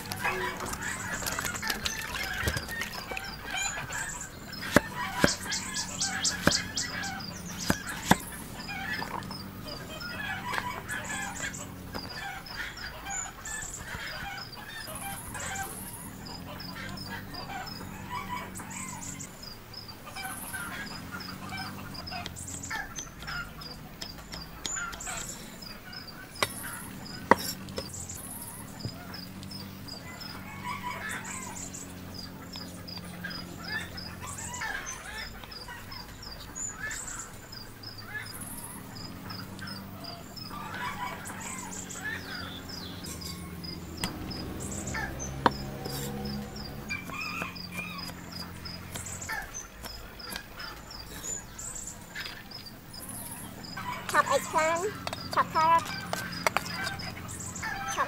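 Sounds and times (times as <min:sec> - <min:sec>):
poultry calling: 0:00.0 - 0:58.0.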